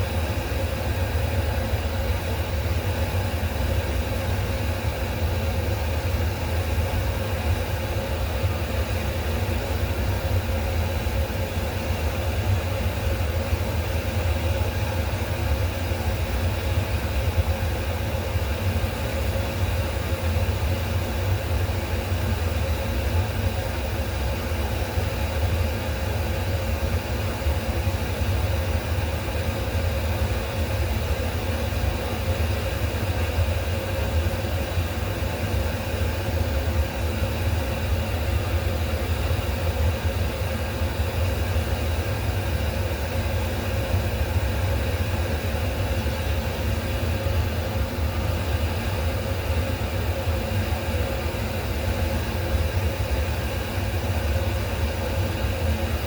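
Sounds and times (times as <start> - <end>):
low mechanical motor hum: 0.0 - 56.0.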